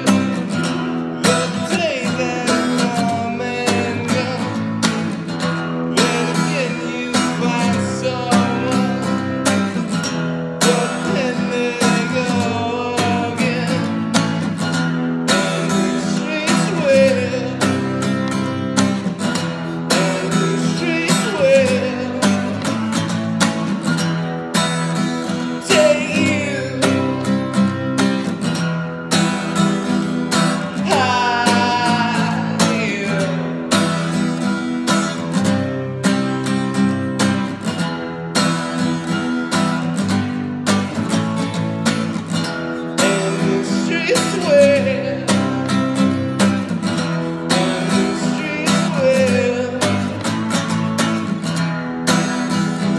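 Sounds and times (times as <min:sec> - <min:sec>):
man singing: 0:00.0 - 0:35.6, 0:40.2 - 0:51.4
acoustic guitar strumming: 0:00.0 - 0:52.9.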